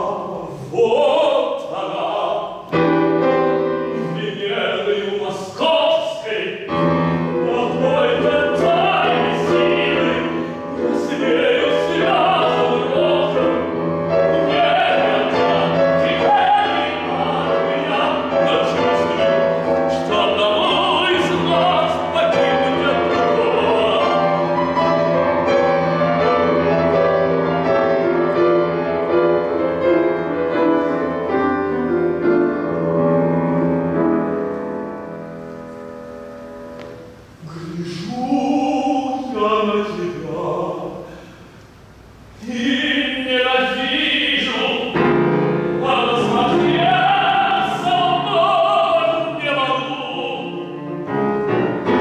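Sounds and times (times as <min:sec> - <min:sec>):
grand piano accompaniment: 0:00.0 - 0:52.0
tenor singing classical piece: 0:00.0 - 0:52.0.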